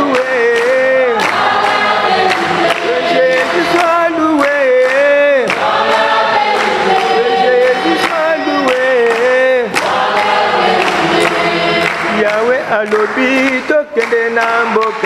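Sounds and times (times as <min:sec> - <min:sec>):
steady beat: 0:00.0 - 0:15.0
voices singing a praise song: 0:00.0 - 0:15.0.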